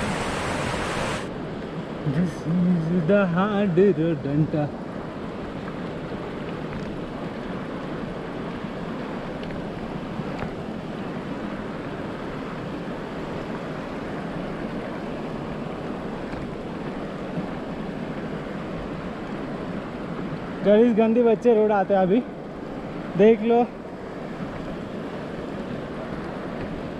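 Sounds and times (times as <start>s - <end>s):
steady rushing noise: 0.0s - 26.9s.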